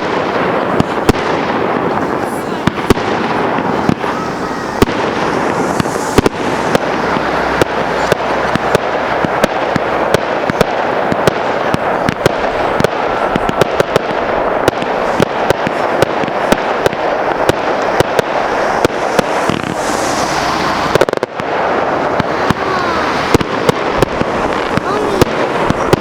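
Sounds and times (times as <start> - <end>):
fireworks crackle: 0.0 - 26.0
fireworks sharp reports: 0.0 - 26.0.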